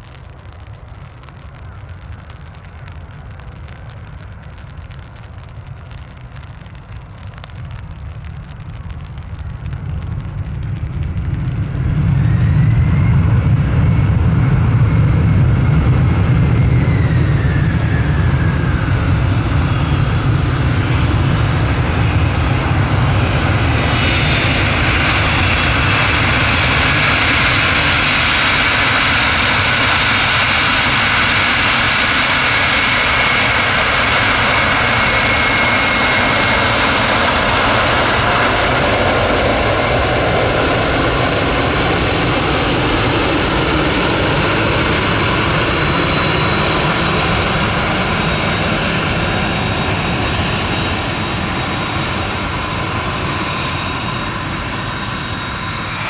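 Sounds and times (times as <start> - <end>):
jet airliner engine roar: 0.0 - 56.0
jet engine whine falling in pitch: 11.0 - 56.0.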